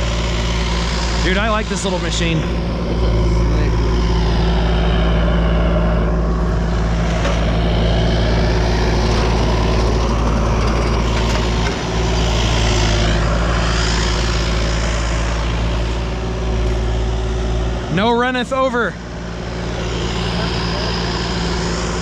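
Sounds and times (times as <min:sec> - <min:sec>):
small machine engine running: 0:00.0 - 0:17.9, 0:18.6 - 0:22.0.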